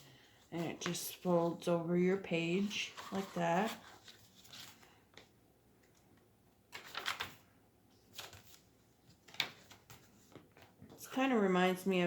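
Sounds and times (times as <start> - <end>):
paper pages rustling: 0.2 - 6.0, 6.7 - 11.2.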